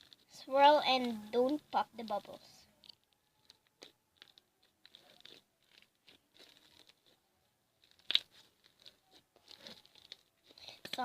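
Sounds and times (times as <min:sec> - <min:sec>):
slime crackling and clicking: 0:00.0 - 0:07.2, 0:07.8 - 0:11.0.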